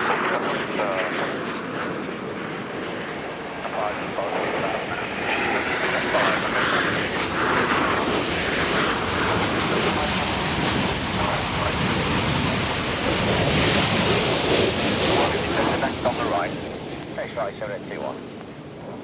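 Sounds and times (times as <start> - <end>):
aircraft engine rushing: 0.0 - 19.0.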